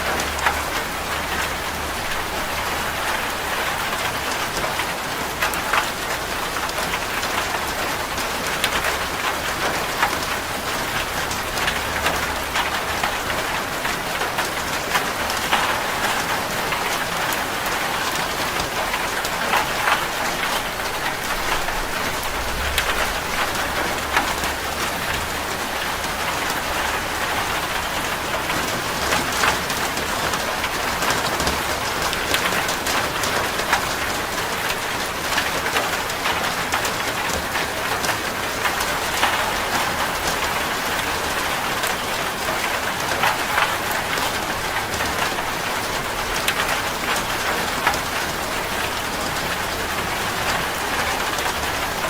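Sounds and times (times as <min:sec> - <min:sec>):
rain drumming on metal roof: 0:00.0 - 0:52.0.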